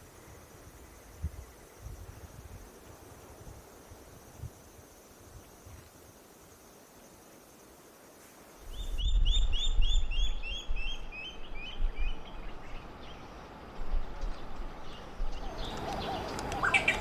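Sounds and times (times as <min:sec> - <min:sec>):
wind rumble on microphone: 0:00.0 - 0:06.0, 0:08.6 - 0:17.0.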